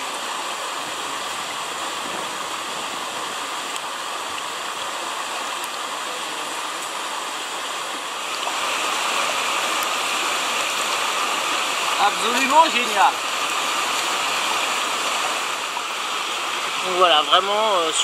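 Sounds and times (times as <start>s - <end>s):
mountain stream running: 0.0s - 18.0s.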